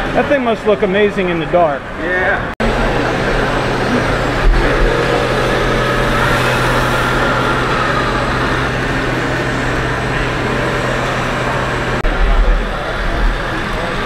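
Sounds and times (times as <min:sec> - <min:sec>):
busy exhibition hall background noise: 0:00.0 - 0:14.0
diesel truck engine through small speaker: 0:02.6 - 0:14.0.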